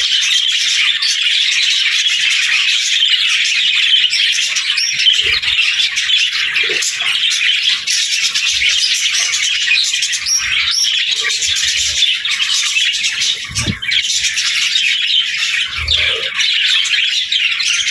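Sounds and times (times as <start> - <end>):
budgerigars chattering and chirping: 0.0 - 17.9.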